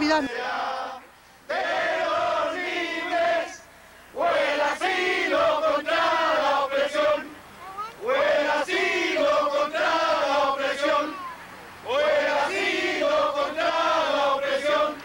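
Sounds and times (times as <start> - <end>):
crowd chanting in unison: 0.0 - 7.4, 8.0 - 15.0.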